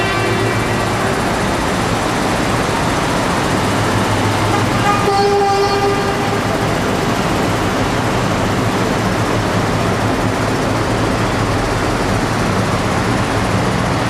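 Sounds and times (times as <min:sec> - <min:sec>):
truck engines droning: 0:00.0 - 0:14.0.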